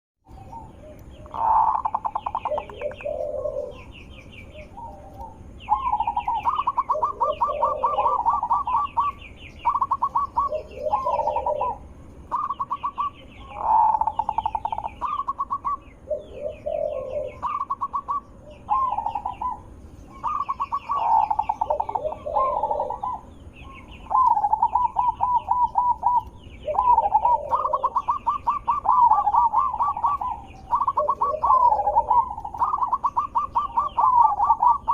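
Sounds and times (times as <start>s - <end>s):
dove cooing: 0.3s - 34.9s
high-pitched chirping: 0.3s - 34.9s.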